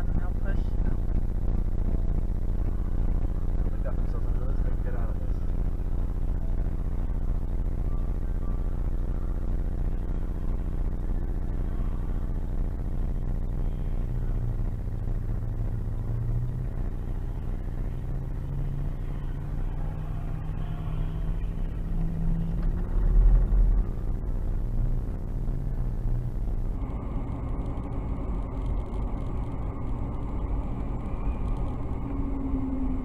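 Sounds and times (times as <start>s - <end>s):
car engine rumble: 0.0s - 33.0s
low rumble: 0.0s - 33.0s.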